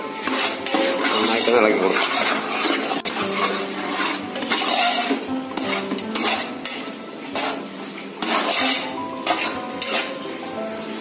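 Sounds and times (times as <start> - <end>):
spoon scraping metal pot: 0.0 - 10.5
vegetables frying in oil: 0.0 - 11.0.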